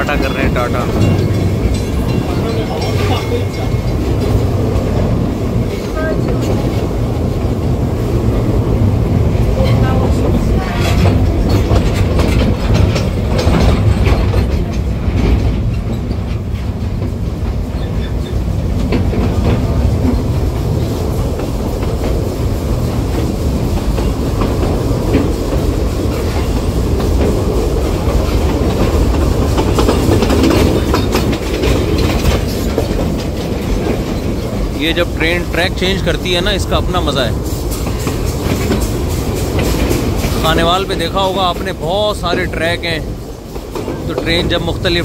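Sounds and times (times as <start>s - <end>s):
clickety-clack of rail joints: 0.0s - 45.0s
train wheels rumbling on rails: 0.0s - 45.0s.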